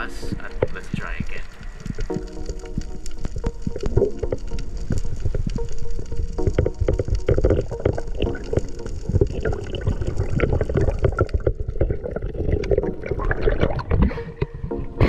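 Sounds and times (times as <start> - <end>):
underwater water rushing and gurgling: 0.0 - 15.0.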